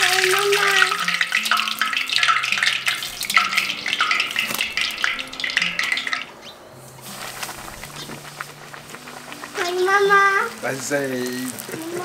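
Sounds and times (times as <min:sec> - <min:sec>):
oil sizzling and crackling: 0:00.0 - 0:12.0.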